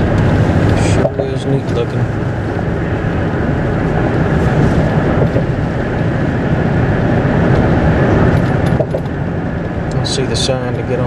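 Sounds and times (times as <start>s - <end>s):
car cabin road and engine drone: 0.0s - 11.0s.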